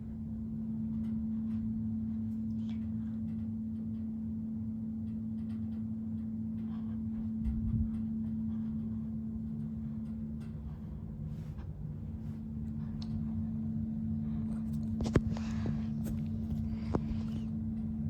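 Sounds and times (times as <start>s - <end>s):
ceiling fan motor hum: 0.0s - 18.0s.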